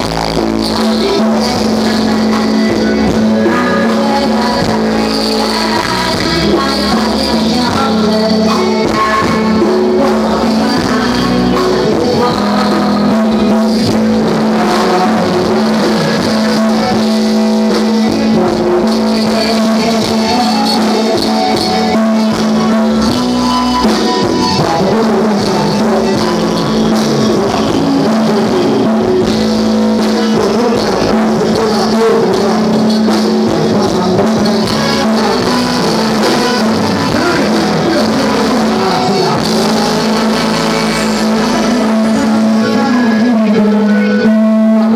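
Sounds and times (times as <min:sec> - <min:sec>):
drum kit: 0:00.0 - 0:44.9
keyboards: 0:00.0 - 0:44.9
live band music: 0:00.0 - 0:44.9.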